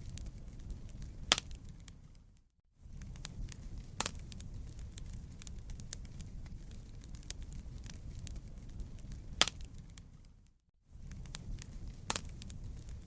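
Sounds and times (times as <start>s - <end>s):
fire pop: 0.0s - 10.3s, 11.0s - 13.0s
wood fire crackling: 0.0s - 13.0s.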